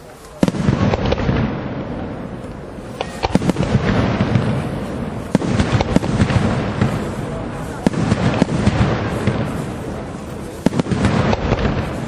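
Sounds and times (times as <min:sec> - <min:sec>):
echoing reports: 0:00.0 - 0:12.0
firework shells bursting: 0:00.0 - 0:12.0.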